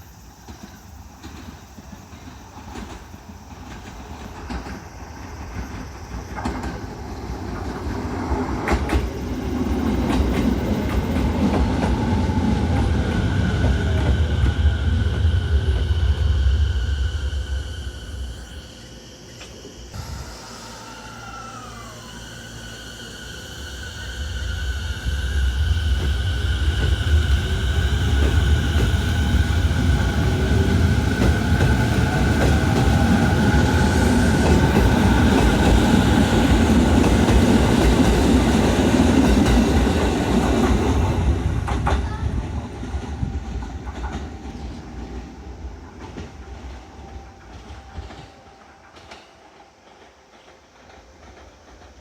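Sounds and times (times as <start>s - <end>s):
traction motors whining: 3.7s - 52.0s.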